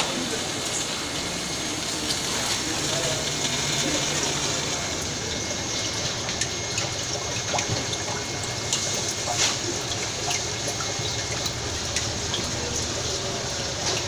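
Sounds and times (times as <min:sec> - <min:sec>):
fish tank water bubbling: 0:00.1 - 0:14.0
small splashes and drips: 0:00.6 - 0:14.0.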